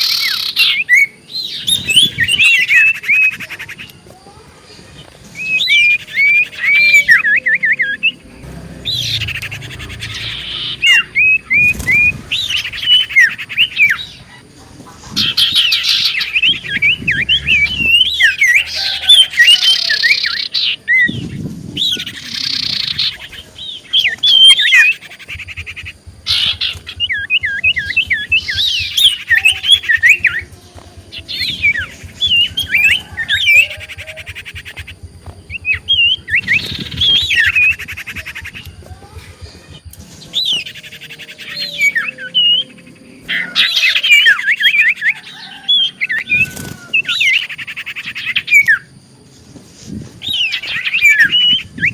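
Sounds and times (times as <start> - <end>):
bird chirps and whistled trills: 0.0 - 51.9.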